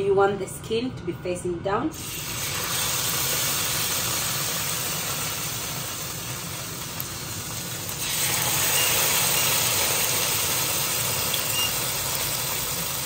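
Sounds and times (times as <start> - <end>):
fish sizzling in frying pan: 2.0 - 13.0.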